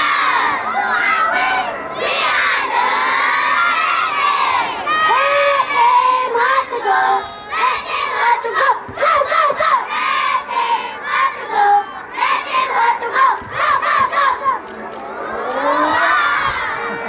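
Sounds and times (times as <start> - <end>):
children shouting and cheering: 0.0 - 17.0.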